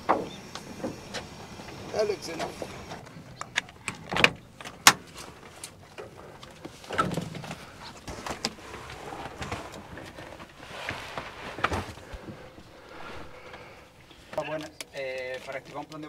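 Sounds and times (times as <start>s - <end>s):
rustling and scraping in cabin: 0.0s - 16.0s.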